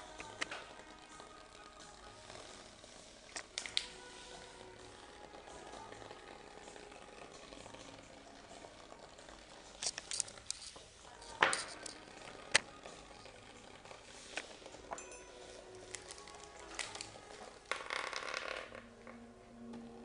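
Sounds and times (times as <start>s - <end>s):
vibrating bristles buzzing on wood: 0.0s - 19.2s.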